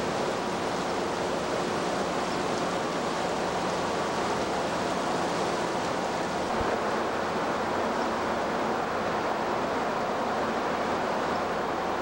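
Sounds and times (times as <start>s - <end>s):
heavy rain and wind: 0.0s - 12.0s.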